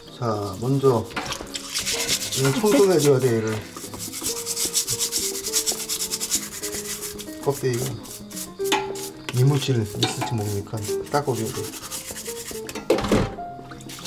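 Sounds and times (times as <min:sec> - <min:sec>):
brush scrubbing crab shell: 0:00.2 - 0:12.7.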